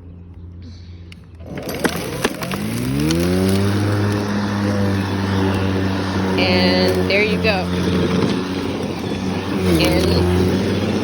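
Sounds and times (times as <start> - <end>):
lawn mower clicks: 1.1 - 11.0
electric lawn mower motor whine: 1.2 - 11.0.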